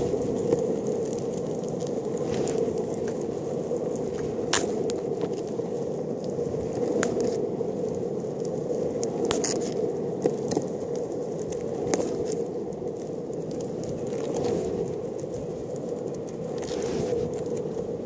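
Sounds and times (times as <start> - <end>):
skateboard wheels rolling on tarmac: 0.0 - 18.0
wheels clicking over grit: 0.0 - 18.0.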